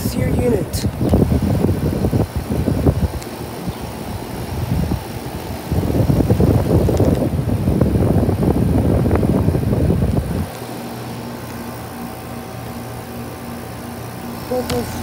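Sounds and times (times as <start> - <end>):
air conditioner low hum: 0.0 - 15.0
fan air buffeting microphone: 0.0 - 15.0.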